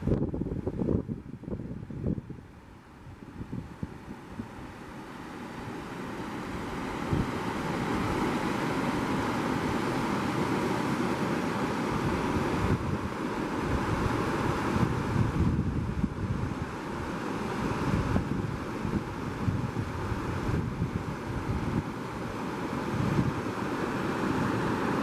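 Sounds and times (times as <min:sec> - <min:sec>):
wind buffeting microphone: 0:00.0 - 0:05.0, 0:05.6 - 0:09.8, 0:11.9 - 0:23.7
creek water rushing over rocks: 0:03.9 - 0:25.0.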